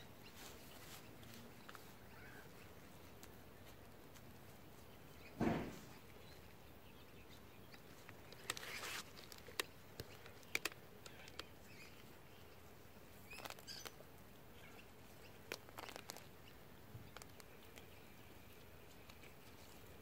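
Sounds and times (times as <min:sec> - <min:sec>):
dry straw crackling: 0:00.0 - 0:05.1, 0:07.7 - 0:20.0.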